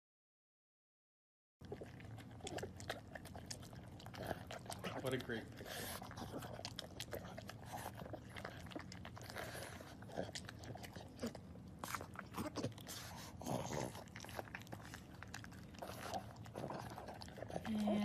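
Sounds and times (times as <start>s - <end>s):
dog chewing wetly: 1.6s - 18.0s.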